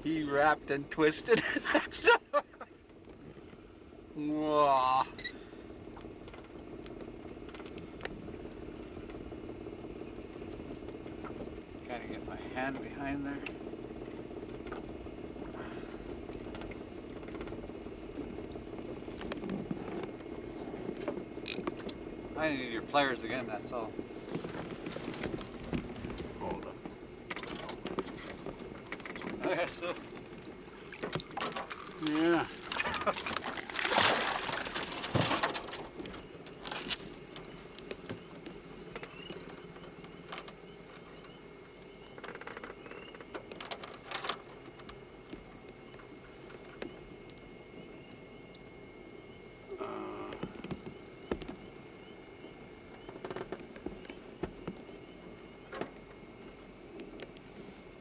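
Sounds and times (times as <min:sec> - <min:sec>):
boat motor running: 0:00.0 - 0:58.0
faint steady hum: 0:00.0 - 0:58.0.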